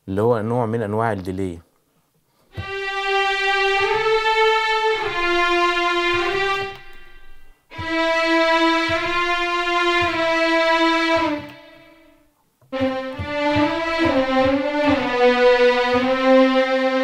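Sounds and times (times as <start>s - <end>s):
violin section sustained notes: 2.6s - 12.1s, 12.8s - 17.0s.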